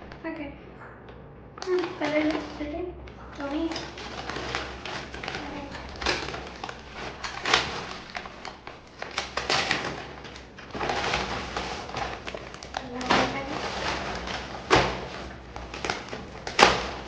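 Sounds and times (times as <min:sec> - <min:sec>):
packaging rustling and crinkling: 0:01.6 - 0:17.0.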